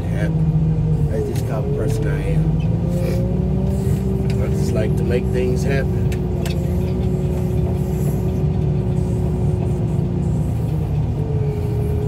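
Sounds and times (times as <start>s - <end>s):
diesel engine rumbling under load: 0.0s - 12.0s
steady whine: 0.0s - 12.0s.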